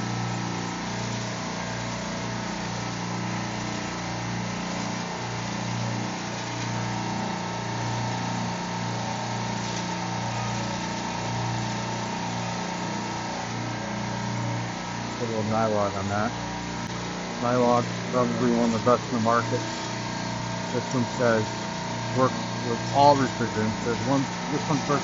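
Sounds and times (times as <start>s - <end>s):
compressors humming: 0.0s - 25.0s.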